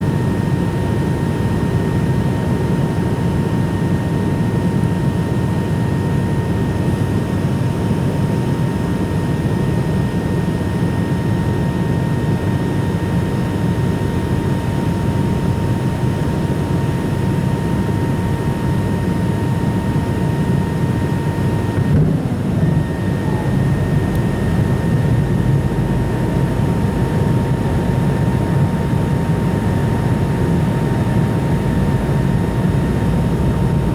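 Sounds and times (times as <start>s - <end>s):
jet engine roar: 0.0s - 33.9s
turbofan high whine: 0.0s - 33.9s.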